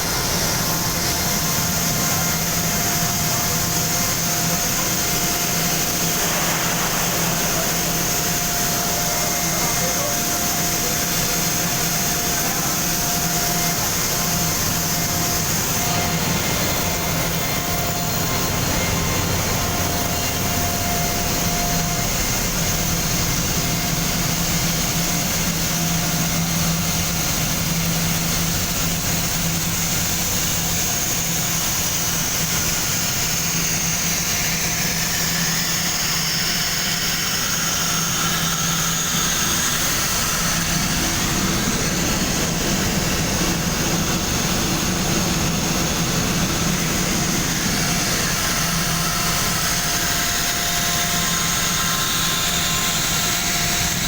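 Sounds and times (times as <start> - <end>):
air compressor running: 0.0 - 54.0.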